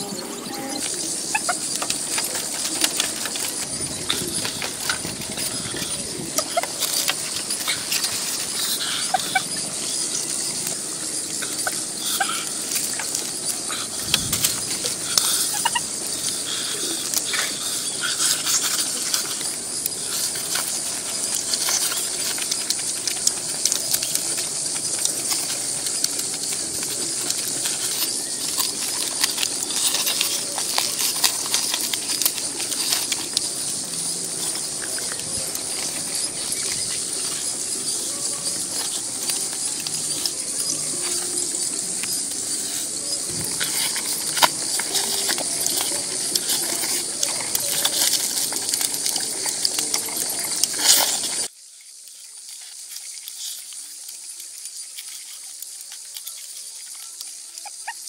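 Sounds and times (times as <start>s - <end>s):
insects chorus: 0.0s - 58.0s
food being peeled and eaten: 0.8s - 58.0s.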